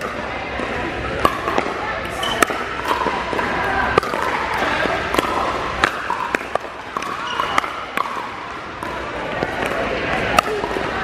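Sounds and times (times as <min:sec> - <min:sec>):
paddles striking ball: 0:00.0 - 0:10.9
hall background noise: 0:00.0 - 0:11.0.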